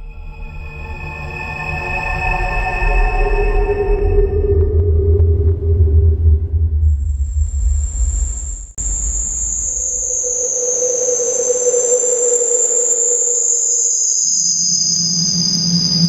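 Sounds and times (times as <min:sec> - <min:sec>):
low droning tone: 0:00.0 - 0:16.0
shrill high sustained tone: 0:00.4 - 0:16.0
steady mid tone: 0:02.6 - 0:16.0.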